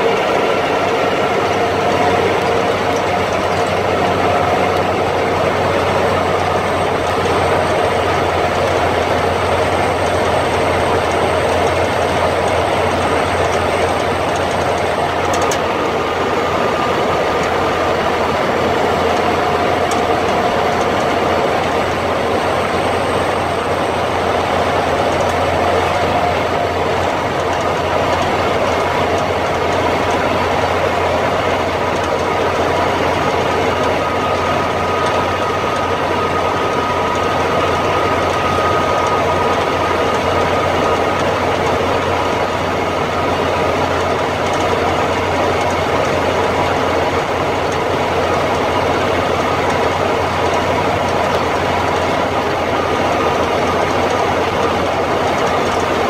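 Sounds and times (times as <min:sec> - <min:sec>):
road and cab noise: 0:00.0 - 0:56.0
truck diesel engine running: 0:00.0 - 0:56.0.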